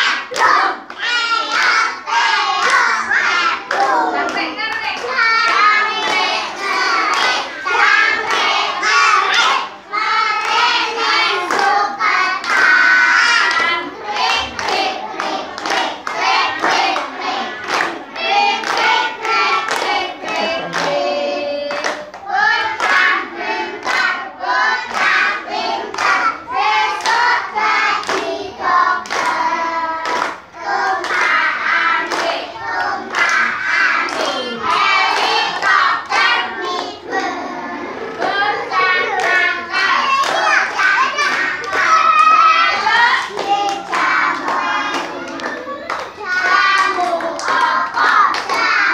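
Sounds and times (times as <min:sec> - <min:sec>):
children singing: 0:00.0 - 0:04.4, 0:05.0 - 0:48.9
children clapping hands: 0:00.0 - 0:48.9.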